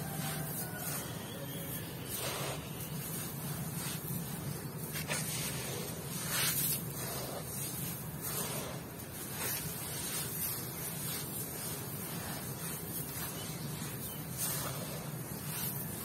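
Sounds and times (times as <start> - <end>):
hand raking through crushed stone: 0.0 - 16.0.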